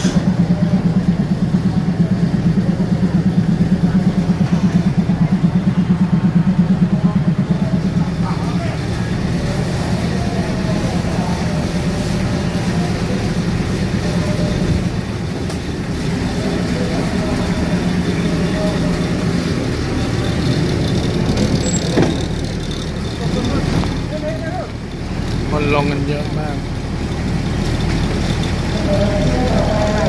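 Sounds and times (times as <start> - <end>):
diesel train engine drone: 0.0 - 30.0
faint voices: 0.0 - 30.0.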